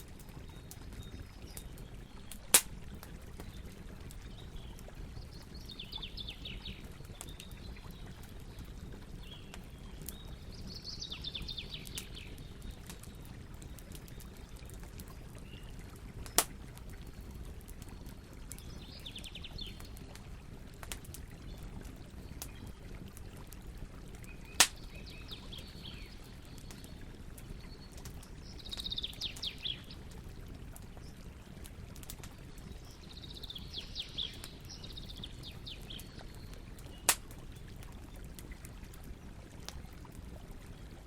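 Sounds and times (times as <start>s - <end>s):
campfire crackling: 0.0s - 41.0s
low fire rumble: 0.0s - 41.0s.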